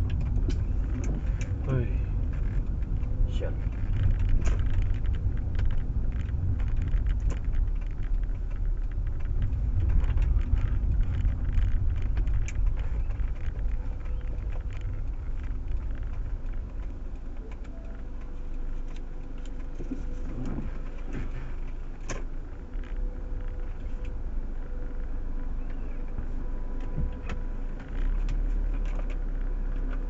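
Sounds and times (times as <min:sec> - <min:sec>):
road and engine rumble: 0:00.0 - 0:30.0
small clicks and rattles: 0:00.0 - 0:30.0.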